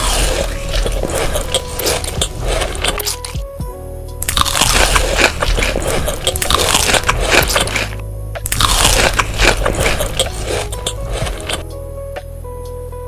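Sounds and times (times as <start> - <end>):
crunching and chewing crisp food: 0.0 - 3.4, 4.2 - 11.6
soft background music: 0.0 - 13.0.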